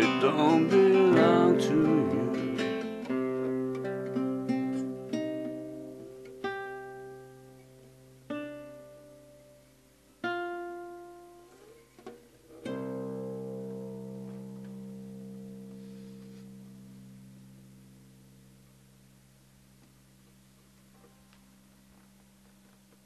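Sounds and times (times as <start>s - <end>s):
guitar chords ringing: 0.0s - 21.7s.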